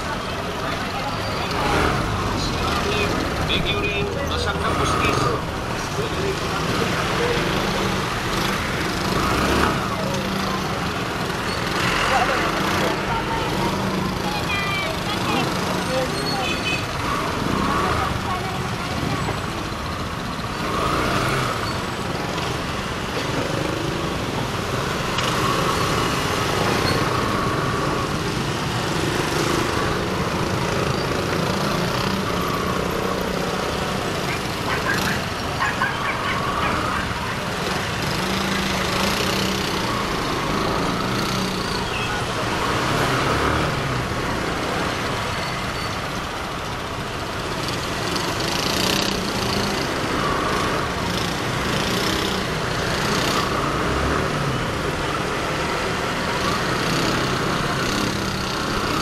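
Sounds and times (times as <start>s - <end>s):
motorcycle engines in traffic: 0.0s - 59.0s.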